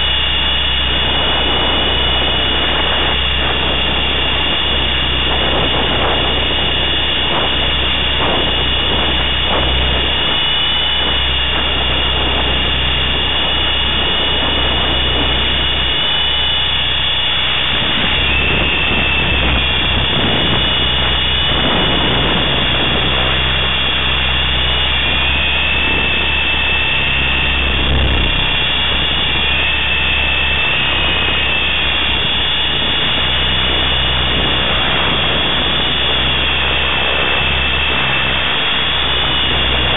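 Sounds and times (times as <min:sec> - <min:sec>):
helicopter rotors rushing: 0:00.0 - 0:39.9
rc helicopter motor whine: 0:00.0 - 0:39.9.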